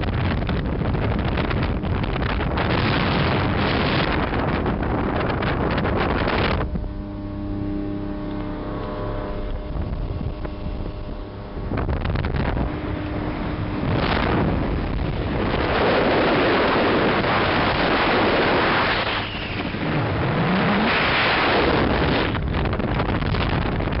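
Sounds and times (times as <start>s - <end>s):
outboard motor running: 0.0s - 24.0s
wind and water rushing: 0.0s - 24.0s.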